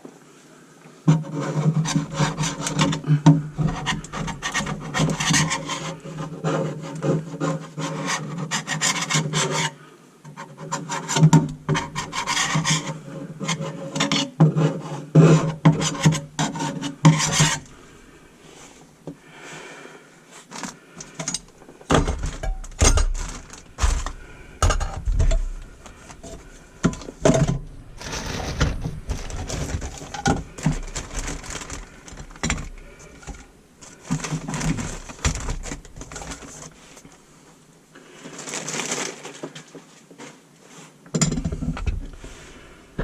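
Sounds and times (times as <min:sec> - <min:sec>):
rubbing or scraping: 0:01.1 - 0:18.9, 0:20.3 - 0:37.3.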